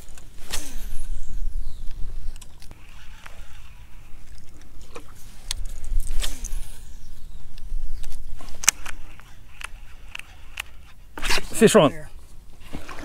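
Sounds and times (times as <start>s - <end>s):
reel clicking: 0.0s - 11.0s
fishing reel whirring: 0.0s - 11.7s.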